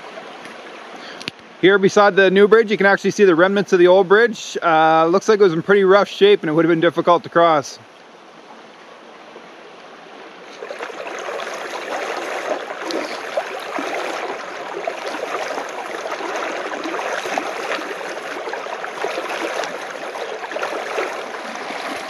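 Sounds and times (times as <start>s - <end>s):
brook babbling over stones: 0.0s - 22.0s.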